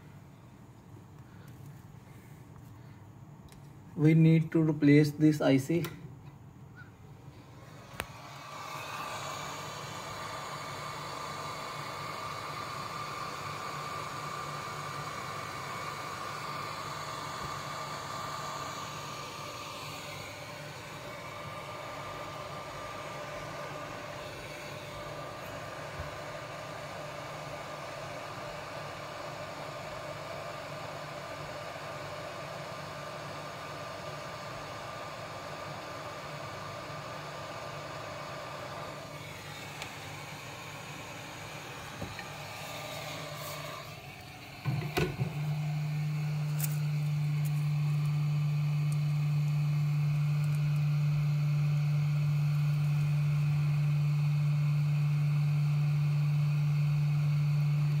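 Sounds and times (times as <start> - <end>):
hot air gun fan whine: 0.0 - 58.0.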